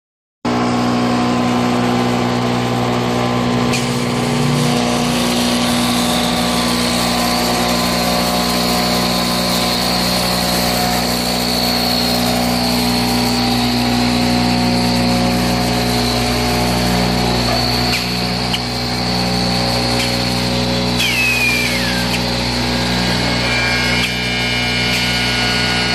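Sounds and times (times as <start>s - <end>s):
woodworking machine whining: 0.5s - 25.9s
rush of wood cutting: 0.6s - 25.9s.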